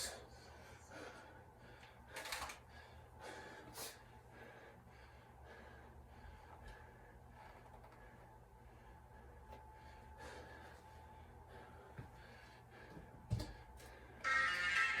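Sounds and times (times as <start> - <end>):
man breathing heavily: 0.0 - 14.2.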